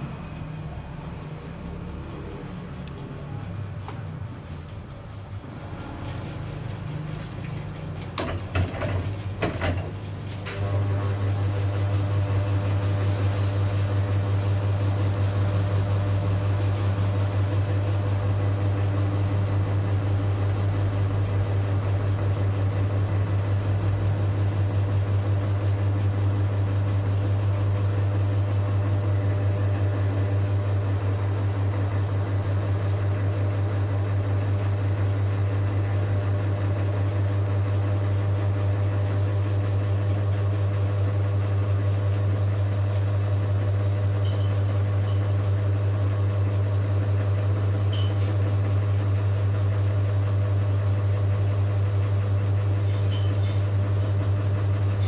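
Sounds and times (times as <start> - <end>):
ceiling fan motor hum: 0.0 - 55.0.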